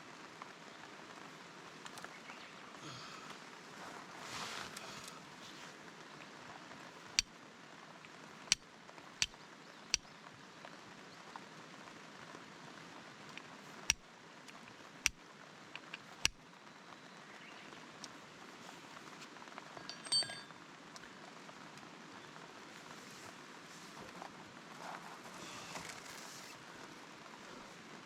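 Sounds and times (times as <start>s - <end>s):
steady rain falling: 0.0s - 19.9s, 20.5s - 28.0s.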